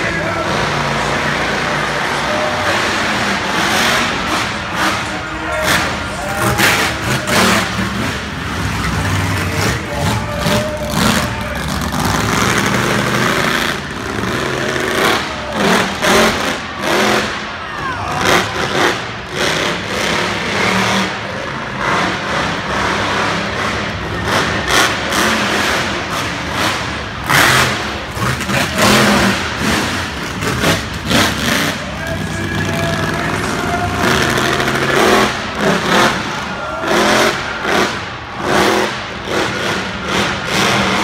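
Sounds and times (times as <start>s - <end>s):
monster truck engines revving: 0.0s - 41.0s.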